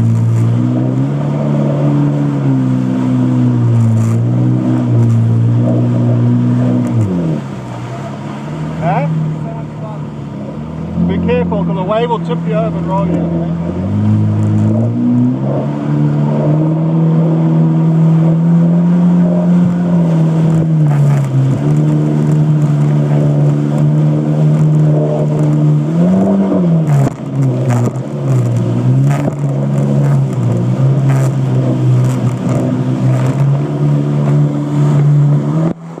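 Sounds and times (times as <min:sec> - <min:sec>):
jet ski engine running: 0:00.0 - 0:36.0.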